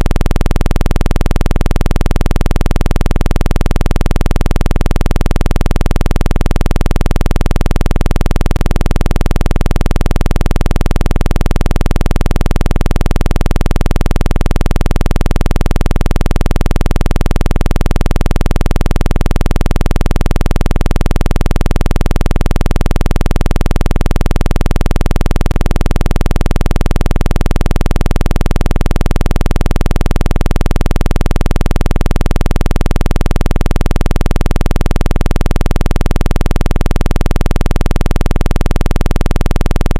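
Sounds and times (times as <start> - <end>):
low electronic buzzing tone: 0.0 - 39.9.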